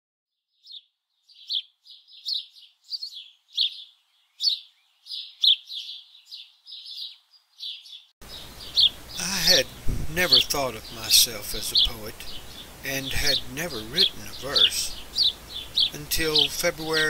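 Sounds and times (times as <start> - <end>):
sparrow chirping: 0.5 - 17.0.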